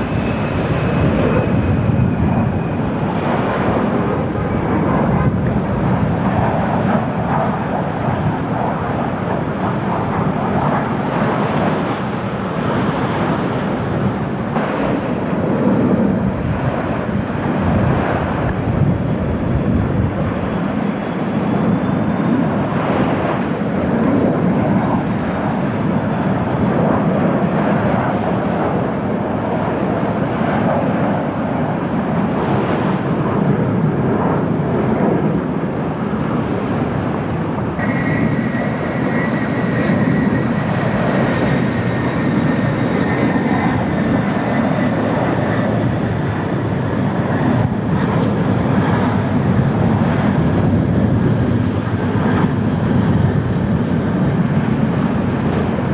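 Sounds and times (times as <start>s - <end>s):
airliner engines rushing: 0.0s - 55.9s
high engine whine: 0.0s - 55.9s.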